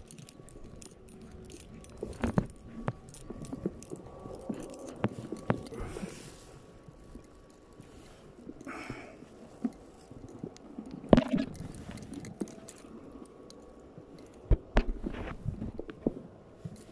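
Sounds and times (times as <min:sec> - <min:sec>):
handling rustles: 0:00.0 - 0:16.9.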